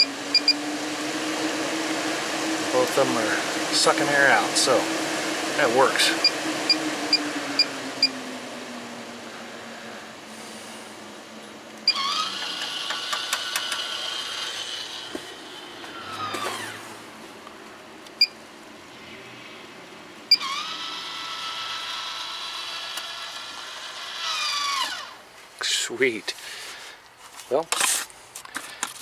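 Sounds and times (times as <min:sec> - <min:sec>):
fan motor whine: 0:00.0 - 0:25.8.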